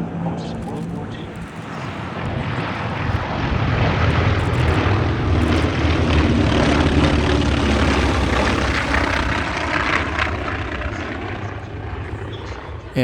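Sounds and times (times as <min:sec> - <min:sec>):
propeller aircraft drone overhead: 0:00.0 - 0:13.0.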